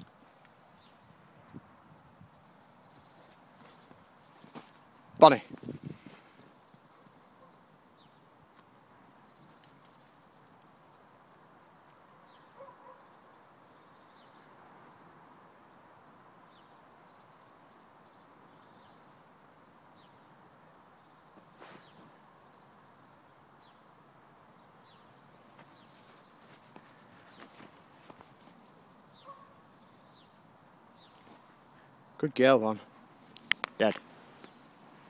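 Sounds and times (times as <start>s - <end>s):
distant bird chirps: 2.3s - 5.4s, 6.1s - 8.3s, 9.2s - 35.0s.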